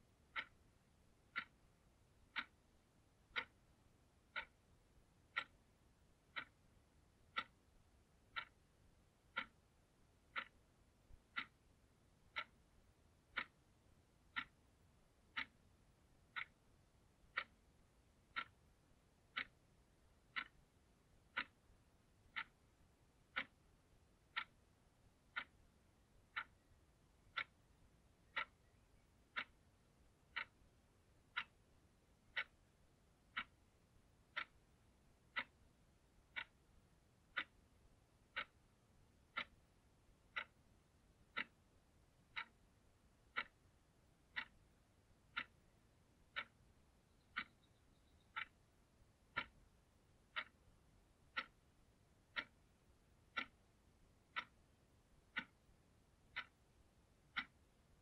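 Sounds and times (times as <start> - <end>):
alarm clock ticking: 0.1 - 58.0.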